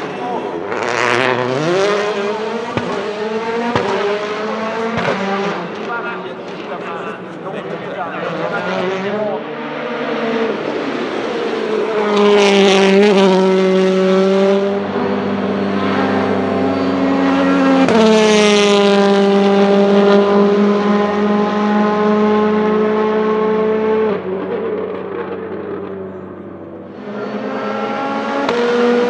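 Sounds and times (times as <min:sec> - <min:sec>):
rally car engine at high revs: 0:00.0 - 0:29.0.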